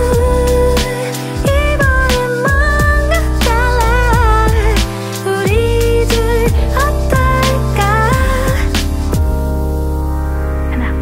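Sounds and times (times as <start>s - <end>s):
r and b song with singing: 0.0s - 9.4s
deep kick drums: 0.0s - 9.8s.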